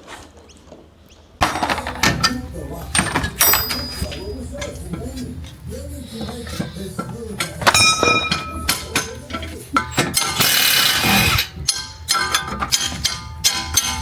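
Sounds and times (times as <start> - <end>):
metal tools clinking: 1.4 - 14.0
ringing metallic clang: 1.4 - 14.0.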